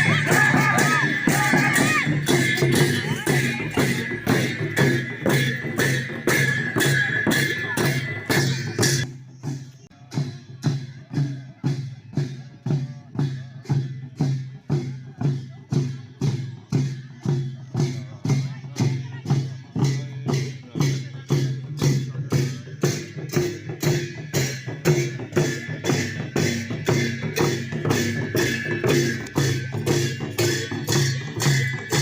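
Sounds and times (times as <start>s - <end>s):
drum and cymbal dance beat: 0.0s - 32.0s
voices: 0.0s - 32.0s.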